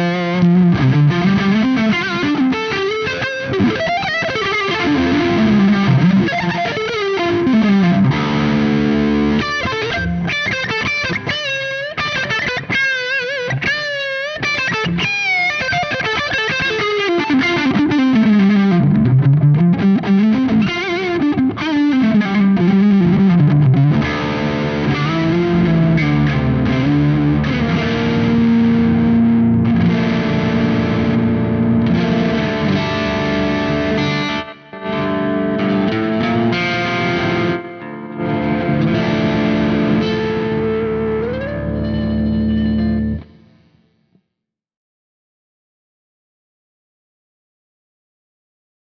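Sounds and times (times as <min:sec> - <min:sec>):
distorted electric guitar: 0:00.0 - 0:44.0.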